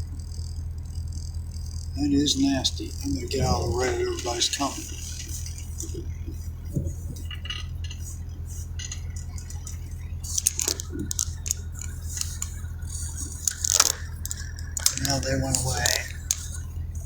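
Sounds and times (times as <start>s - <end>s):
car engine hum inside cabin: 0.0s - 17.0s
light clicks and rattles: 0.0s - 17.0s.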